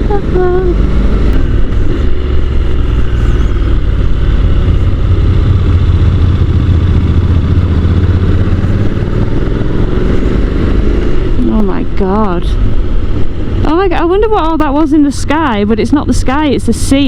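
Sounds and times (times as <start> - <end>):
motorcycle engine droning: 0.0 - 17.0
wind rush on microphone: 0.0 - 17.0.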